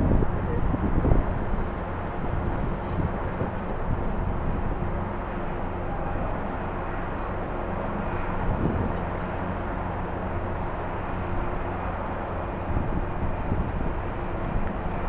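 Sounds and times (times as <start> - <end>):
wind rumbling on microphone: 0.0 - 6.7, 8.0 - 15.0.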